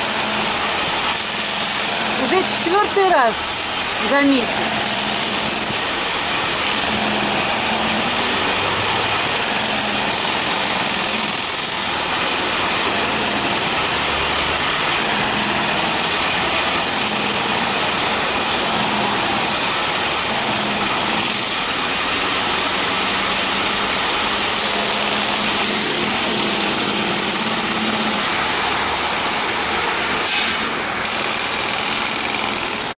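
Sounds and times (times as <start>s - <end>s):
air compressor engine running: 0.0s - 32.9s
jackhammer hammering asphalt: 0.0s - 32.9s.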